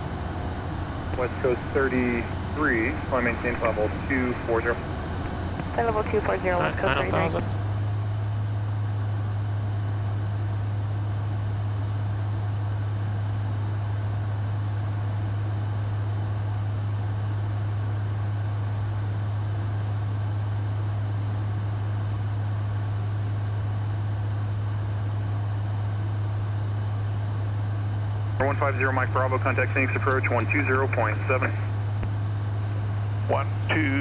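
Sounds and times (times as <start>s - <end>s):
constant low hum: 0.0s - 34.0s
jet cockpit airflow and engine noise: 0.0s - 34.0s.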